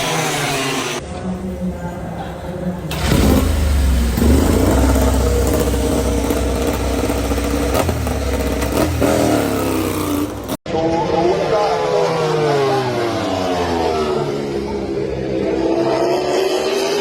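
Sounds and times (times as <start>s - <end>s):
race motorcycle engines revving: 0.0s - 10.6s, 11.3s - 17.0s.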